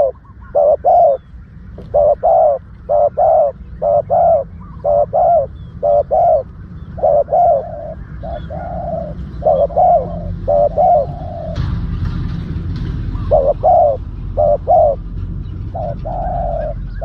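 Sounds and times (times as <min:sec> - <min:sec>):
dove cooing: 0:00.0 - 0:12.0, 0:13.1 - 0:17.0
steady low hum: 0:00.0 - 0:17.0.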